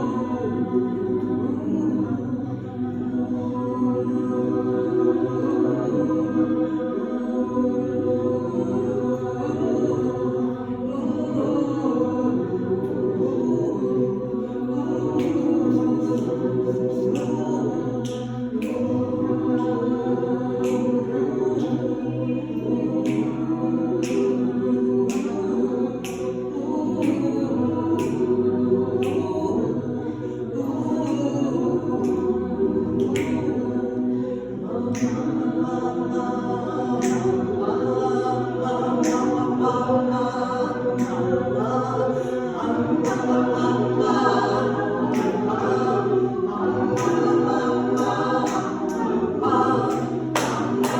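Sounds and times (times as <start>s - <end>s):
choir singing unaccompanied: 0.0s - 50.9s.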